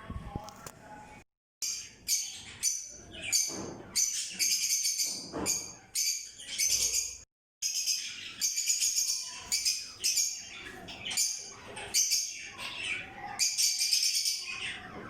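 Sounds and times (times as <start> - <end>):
parrots chirping: 1.6 - 15.0.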